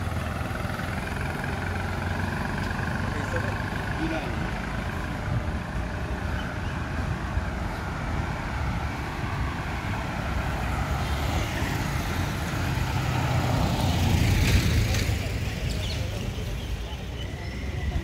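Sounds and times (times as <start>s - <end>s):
vehicle passing close: 0.0s - 16.2s
road traffic engines: 0.0s - 18.0s.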